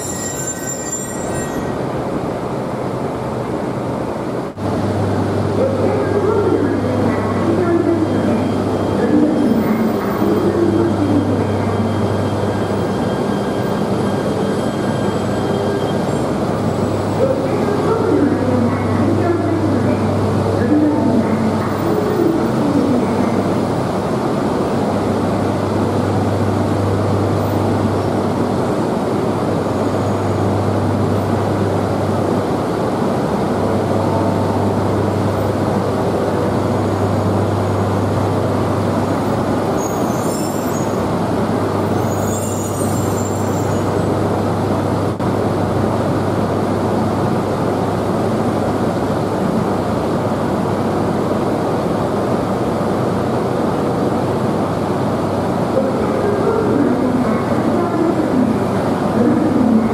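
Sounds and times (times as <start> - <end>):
train humming and rumbling: 0.0 - 59.9.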